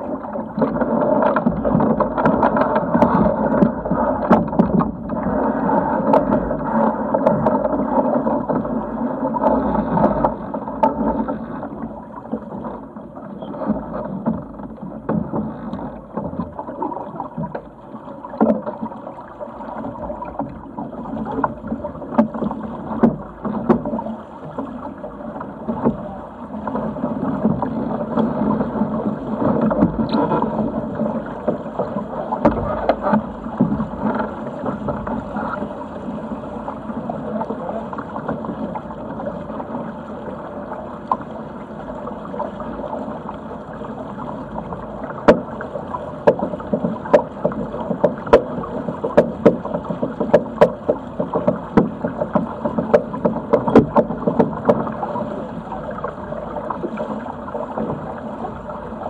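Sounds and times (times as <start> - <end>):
water rushing against hull: 0.0 - 59.0.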